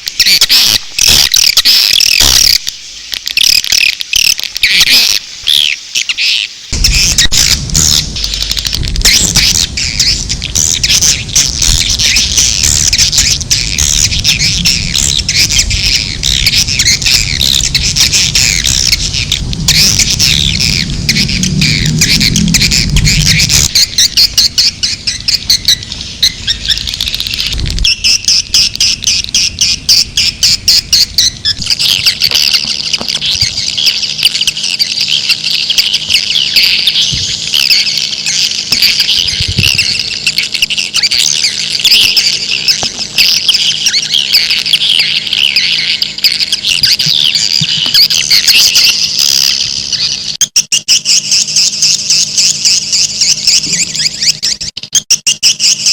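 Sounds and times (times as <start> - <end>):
faint steady hum: 0.0 - 50.4.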